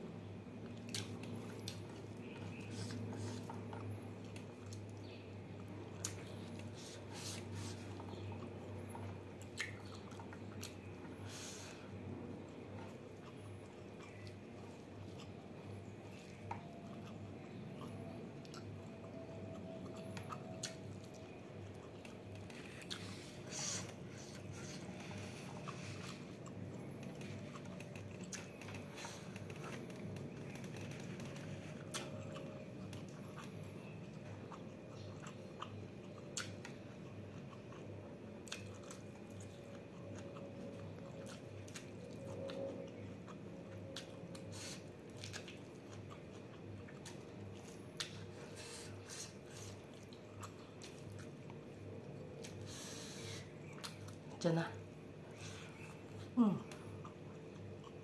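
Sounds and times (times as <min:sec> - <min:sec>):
person chewing food: 0:00.5 - 0:58.0.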